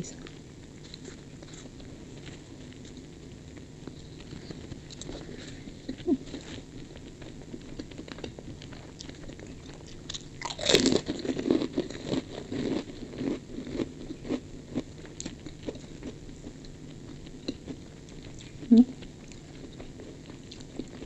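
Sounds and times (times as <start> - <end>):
cracker crunching: 0.3 - 18.6.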